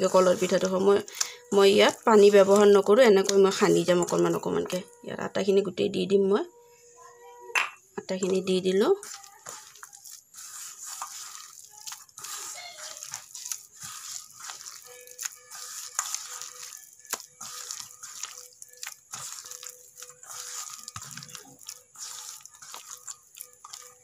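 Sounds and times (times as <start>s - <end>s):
hand kneading sticky dough: 0.0s - 4.7s, 8.3s - 24.0s.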